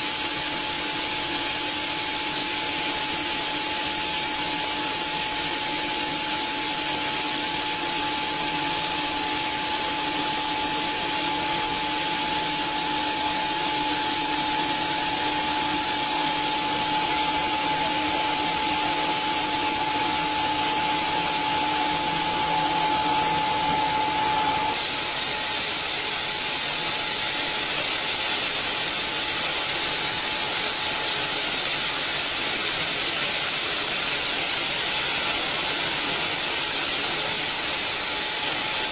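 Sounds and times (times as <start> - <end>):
steady machine whine: 0.0 - 38.9.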